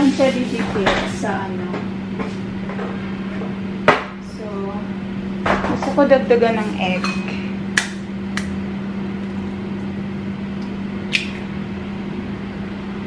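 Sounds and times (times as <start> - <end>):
kitchen appliance hum: 0.0 - 13.0.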